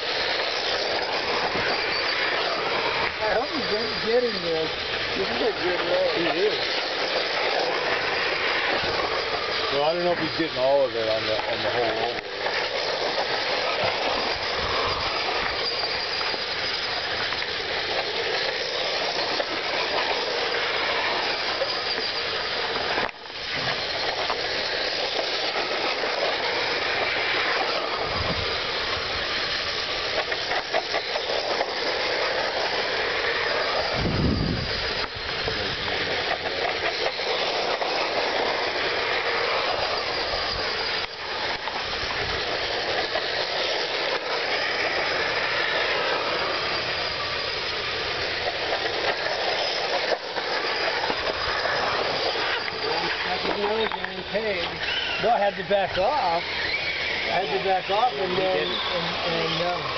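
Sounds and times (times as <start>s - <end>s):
electric rc trucks racing: 0.0s - 59.9s.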